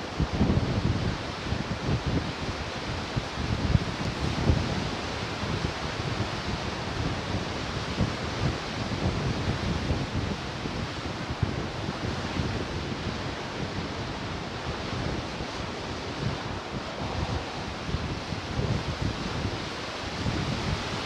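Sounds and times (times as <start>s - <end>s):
ocean surf washing ashore: 0.0s - 21.0s
wind buffeting microphone: 0.0s - 21.0s.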